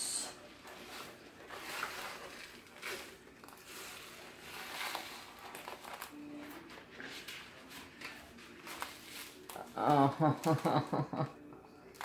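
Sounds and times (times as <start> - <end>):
plastic wrapping crinkling: 0.3 - 11.0.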